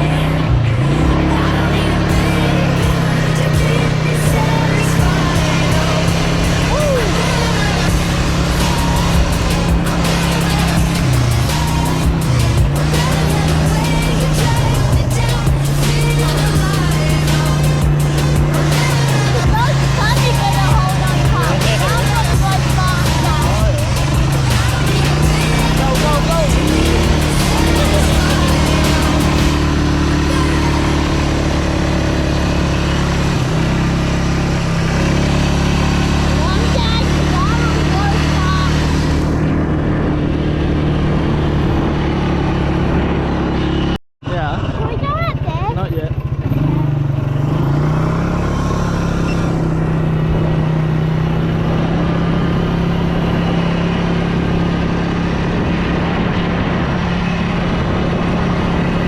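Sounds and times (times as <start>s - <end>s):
motorbike engine running: 0.0s - 59.0s.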